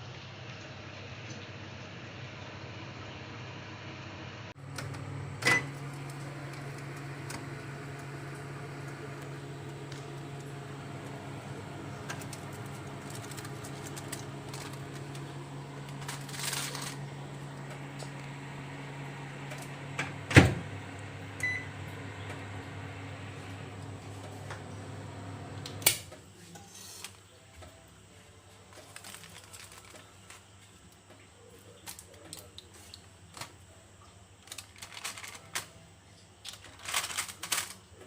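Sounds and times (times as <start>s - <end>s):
microwave oven humming: 0.0s - 38.0s.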